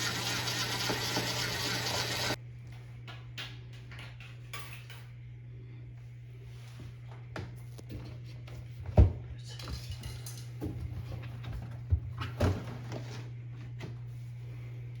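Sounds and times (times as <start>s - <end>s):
steady low hum: 2.3s - 15.0s.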